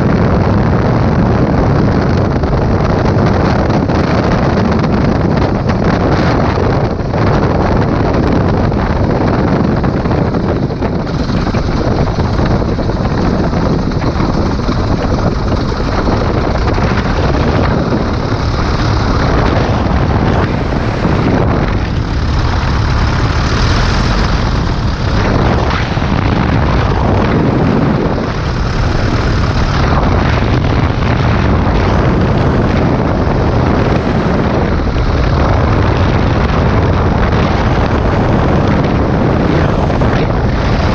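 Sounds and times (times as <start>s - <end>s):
light plane engine and propeller: 0.0s - 40.9s
wind buffeting microphone: 0.0s - 40.9s.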